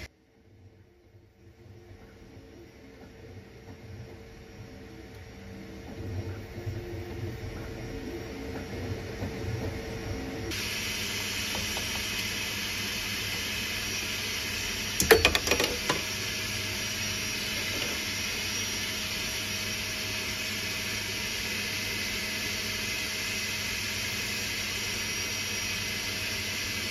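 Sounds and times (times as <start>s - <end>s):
printer cooling fans hissing: 1.6s - 26.9s.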